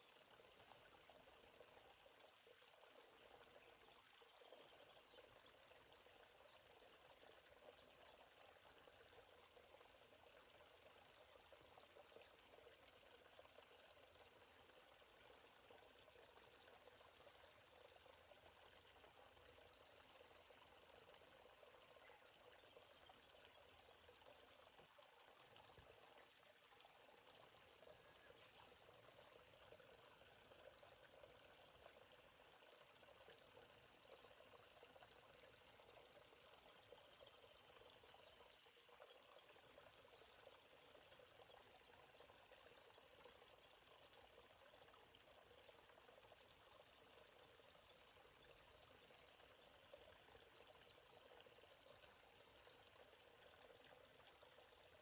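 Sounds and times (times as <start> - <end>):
flowing forest stream: 0.0 - 55.0
high-pitched insect chorus: 0.0 - 55.0.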